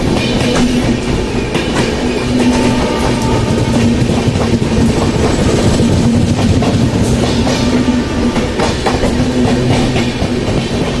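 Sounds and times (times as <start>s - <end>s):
train rumble: 0.0s - 11.0s
train wheels clacking over rail joints: 0.0s - 11.0s.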